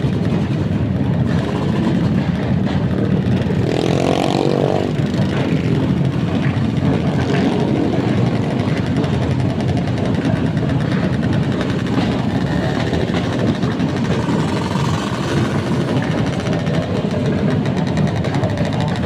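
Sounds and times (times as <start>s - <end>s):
vehicle engine through exhaust: 0.0s - 19.0s.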